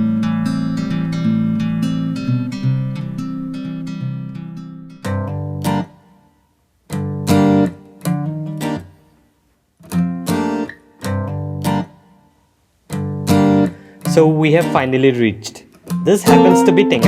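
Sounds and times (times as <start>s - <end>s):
acoustic guitar strumming: 0.0s - 6.4s, 7.0s - 9.0s, 9.9s - 12.3s, 13.0s - 17.0s.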